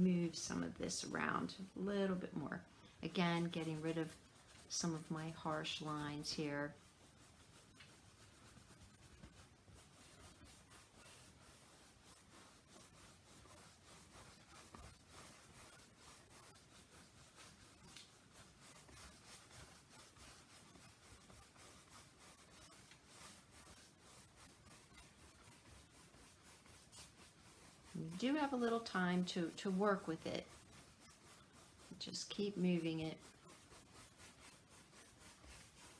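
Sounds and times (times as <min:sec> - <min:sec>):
paintbrush strokes on canvas: 0:00.0 - 0:35.9.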